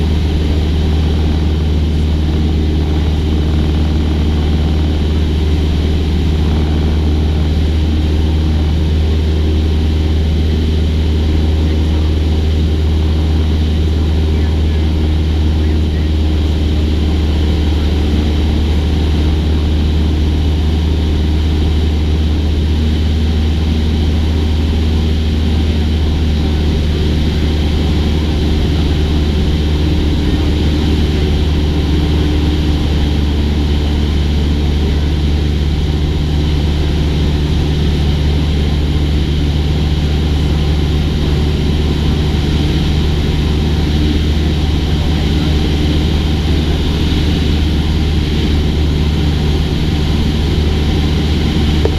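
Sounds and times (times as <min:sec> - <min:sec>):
light aircraft engine droning: 0:00.0 - 0:51.9.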